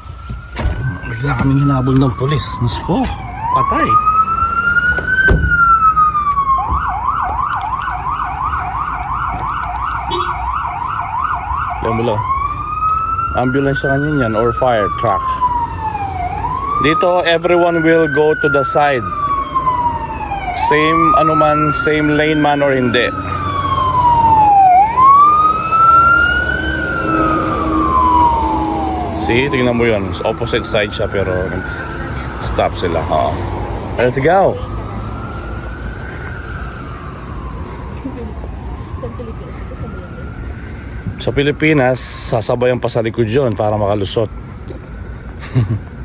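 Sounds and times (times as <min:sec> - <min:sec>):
emergency siren wailing and yelping: 0:00.0 - 0:46.0.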